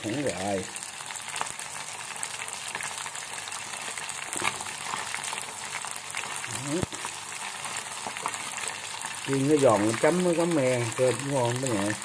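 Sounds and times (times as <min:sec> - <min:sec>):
chopsticks stirring in oil: 0:00.0 - 0:12.0
fish sizzling in hot oil: 0:00.0 - 0:12.0.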